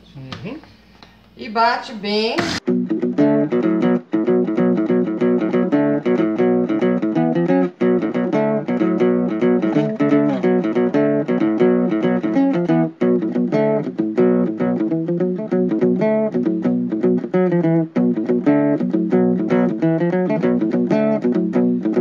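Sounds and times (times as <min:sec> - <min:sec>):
plucked guitar run: 0:02.4 - 0:22.0.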